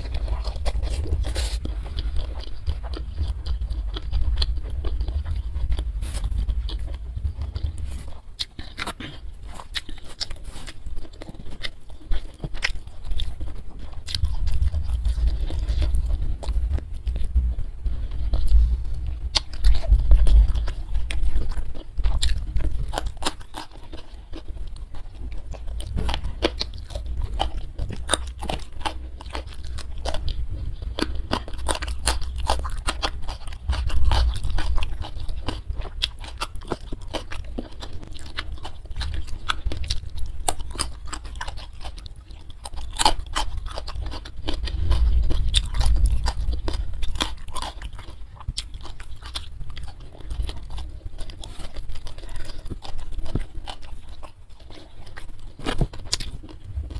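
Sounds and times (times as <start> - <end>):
low rumble: 0.0 - 9.6, 13.3 - 23.4, 24.4 - 53.5
close chewing and crunching: 0.0 - 56.9.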